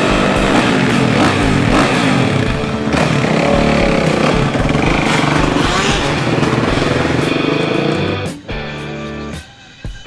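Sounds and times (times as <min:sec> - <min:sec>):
dirt bike engine revving: 0:00.0 - 0:08.4.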